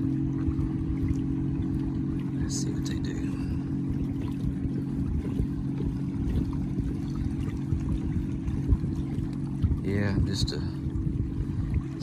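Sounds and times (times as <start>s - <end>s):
steady low hum: 0.0s - 12.0s
water lapping against a kayak hull: 0.0s - 12.0s.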